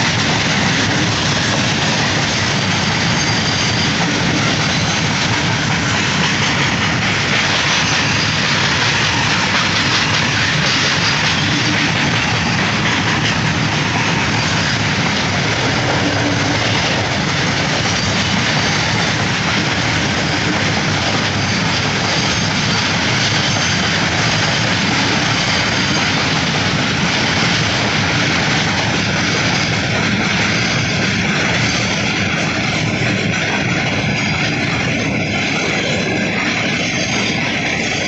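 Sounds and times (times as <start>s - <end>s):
freight train wheels on rails: 0.0s - 38.0s.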